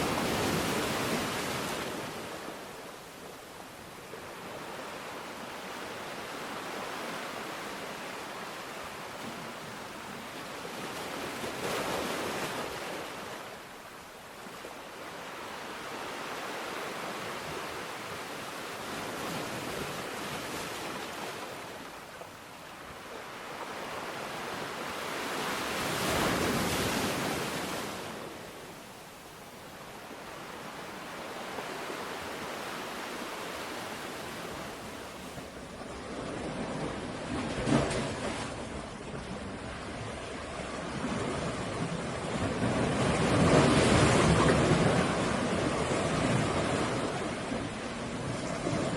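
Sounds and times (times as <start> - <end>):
ocean waves breaking: 0.0 - 29.0, 29.7 - 48.9.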